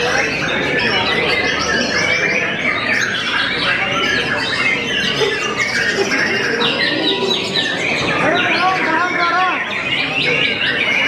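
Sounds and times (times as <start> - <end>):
bird singing chirps and trills: 0.0 - 11.0.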